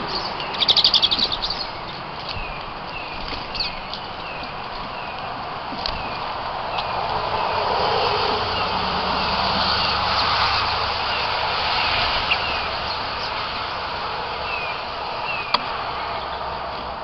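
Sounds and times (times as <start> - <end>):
small birds chirping: 0.0 - 16.8
steady rushing noise: 0.0 - 17.0.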